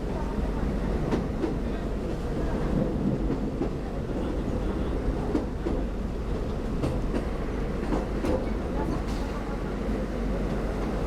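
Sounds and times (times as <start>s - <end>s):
train rumbling on tracks: 0.0s - 11.0s.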